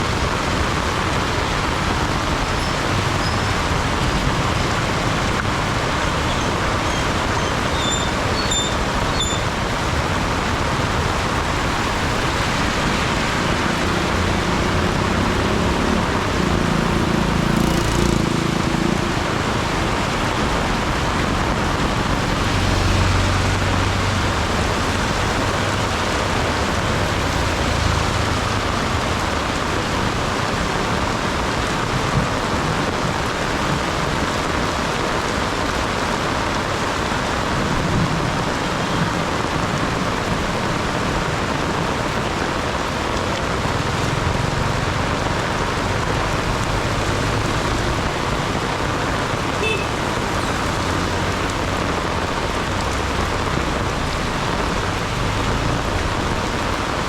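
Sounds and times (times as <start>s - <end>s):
heavy rain pouring: 0.0s - 57.0s
vehicles passing: 0.0s - 57.0s.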